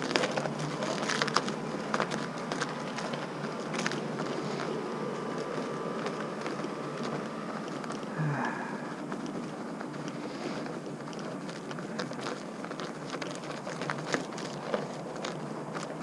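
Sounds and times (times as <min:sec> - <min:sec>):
bicycle tyres rolling over ice: 0:00.0 - 0:16.0
ice crackles and cracks: 0:00.0 - 0:16.0.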